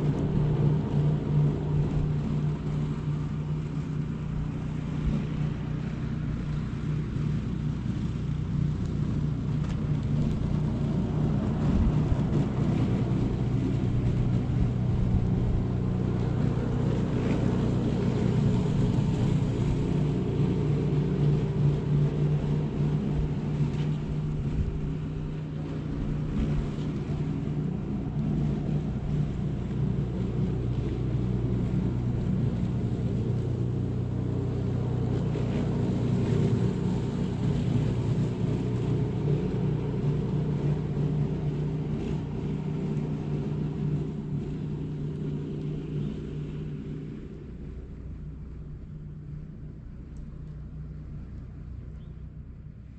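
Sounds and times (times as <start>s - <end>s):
road noise: 0.0s - 52.9s
vehicle engine hum: 0.0s - 52.9s.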